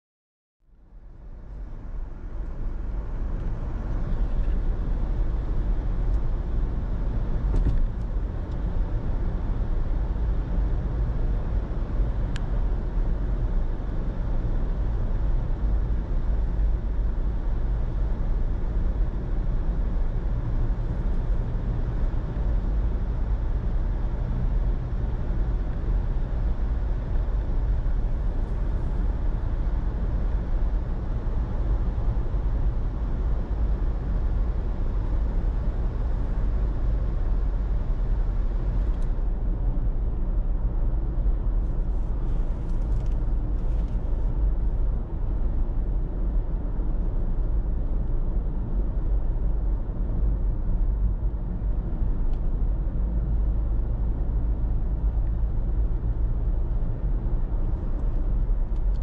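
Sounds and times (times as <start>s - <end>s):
car road and engine rumble: 0.7s - 59.0s.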